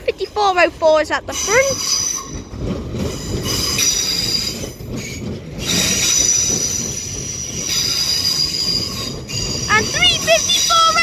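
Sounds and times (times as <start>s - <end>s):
train low rumble: 0.0s - 11.0s
train wheels squealing: 1.2s - 11.0s.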